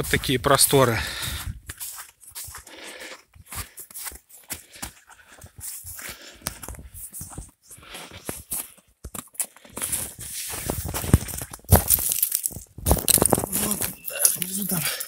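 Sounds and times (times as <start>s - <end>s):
footsteps crunching on snow and rubble: 0.0s - 15.0s.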